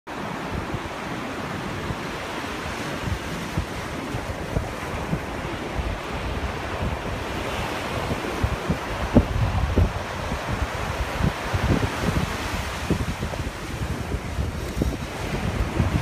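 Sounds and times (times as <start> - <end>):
ocean surf breaking: 0.1 - 16.0
wind buffeting microphone: 0.1 - 16.0.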